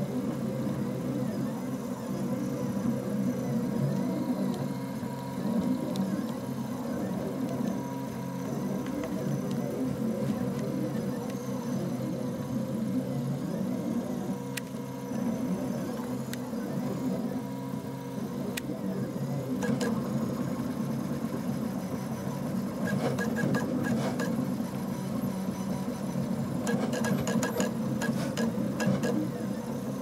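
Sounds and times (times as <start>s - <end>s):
stepper motors whirring: 0.0s - 30.0s.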